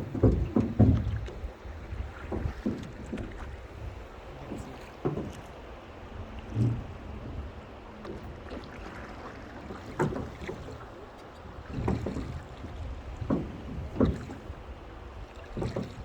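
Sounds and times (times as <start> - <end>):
moving water: 0.0 - 16.0
oars splashing and knocking: 0.0 - 16.0
wind: 0.0 - 16.0.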